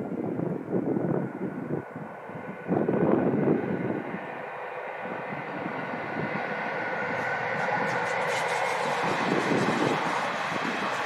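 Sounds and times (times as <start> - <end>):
distant train rumble: 0.0 - 11.0
faint steady whine: 0.0 - 11.0.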